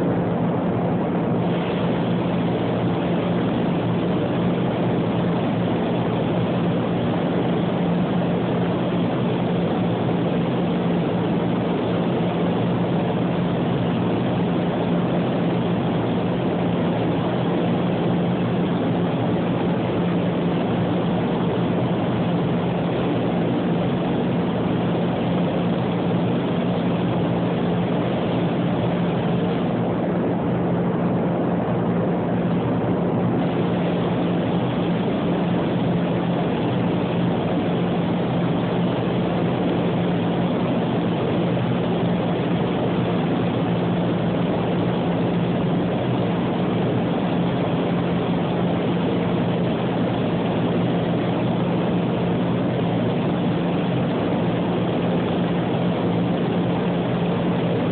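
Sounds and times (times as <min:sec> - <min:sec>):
ventilation fans humming: 0:00.0 - 0:57.9.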